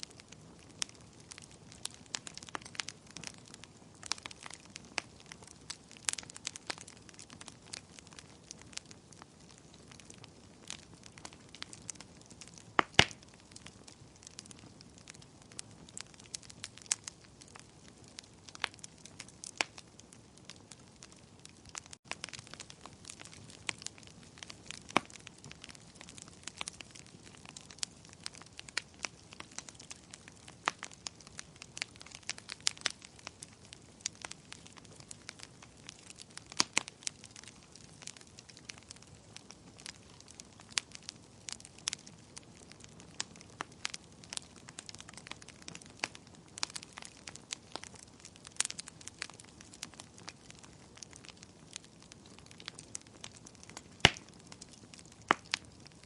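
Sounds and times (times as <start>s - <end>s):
fire crackling and popping: 0.0s - 56.0s
soft steady fire hiss: 0.0s - 56.0s.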